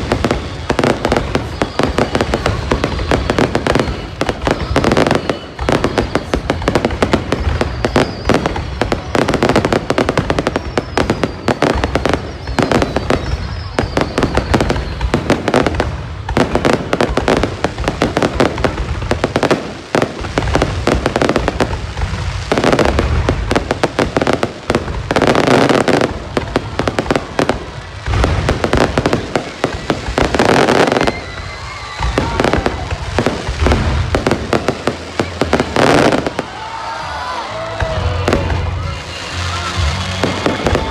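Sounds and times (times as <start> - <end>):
firework whistles: 0.0 - 40.9
fireworks bangs and crackling: 0.0 - 40.9.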